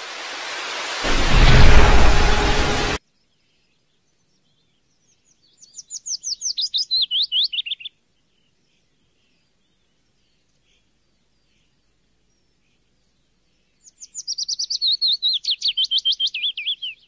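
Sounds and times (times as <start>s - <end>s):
faint bird chirps: 3.2s - 17.0s.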